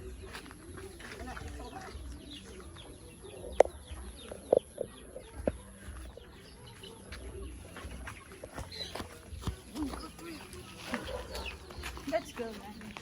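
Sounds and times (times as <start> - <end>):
chickens clucking: 0.0 - 13.0
small birds chirping faintly: 0.0 - 13.0.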